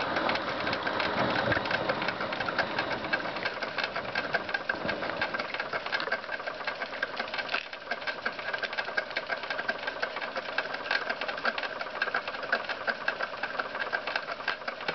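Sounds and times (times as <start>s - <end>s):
toy steam engine ticking clatter: 0.0s - 14.9s.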